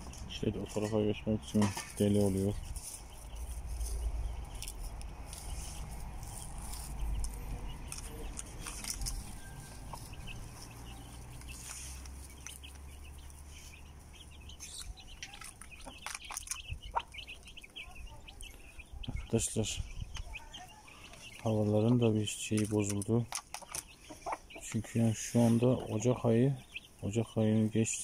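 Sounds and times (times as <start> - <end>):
chick peeps: 0.3 - 28.0
hen clucking: 0.5 - 28.0.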